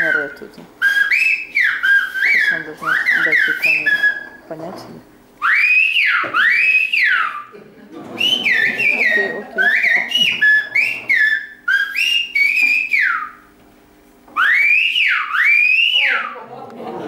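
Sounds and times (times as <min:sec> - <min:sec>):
woman whistling through fingers: 0:00.0 - 0:04.4, 0:05.4 - 0:07.5, 0:08.2 - 0:13.4, 0:14.4 - 0:16.4.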